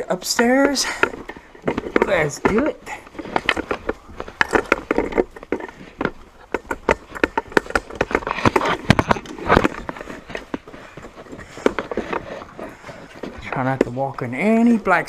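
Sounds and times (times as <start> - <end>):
footsteps on wooden stairs: 0.0 - 15.0.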